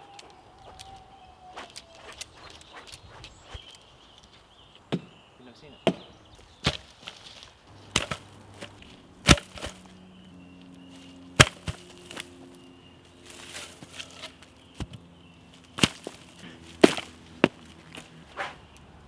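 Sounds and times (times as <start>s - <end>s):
wooden sticks cracking: 0.0s - 5.1s, 5.8s - 10.0s, 10.6s - 19.0s.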